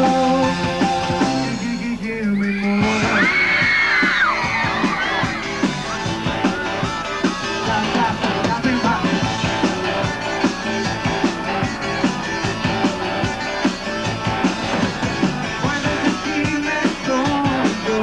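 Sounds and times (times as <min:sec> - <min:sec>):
live rock band playing: 0:00.0 - 0:18.0
steady drum beat: 0:02.8 - 0:18.0.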